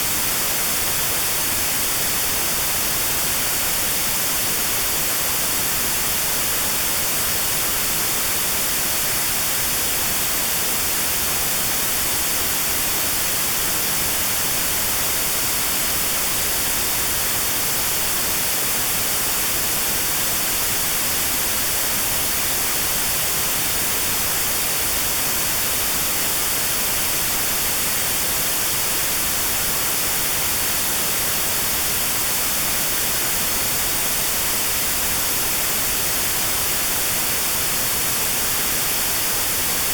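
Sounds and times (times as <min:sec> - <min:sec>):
notched white noise hiss: 0:00.0 - 0:39.9.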